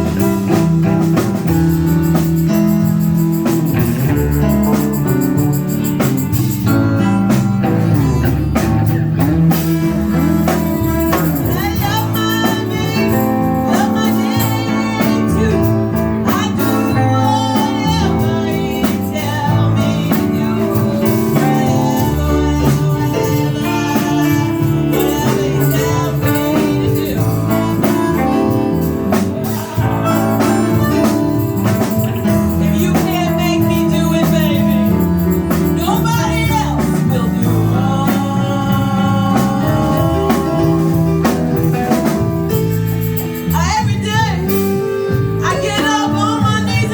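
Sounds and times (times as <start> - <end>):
guitar: 0.0 - 46.9
organ chords: 0.0 - 46.9
person singing: 0.0 - 46.9.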